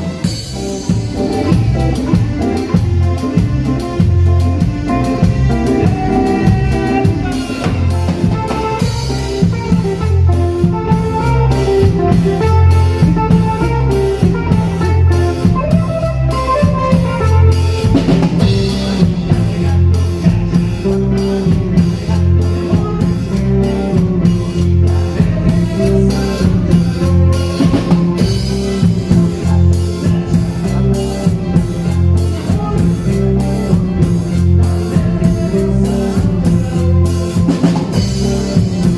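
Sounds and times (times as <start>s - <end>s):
live band playing: 0.0s - 38.9s.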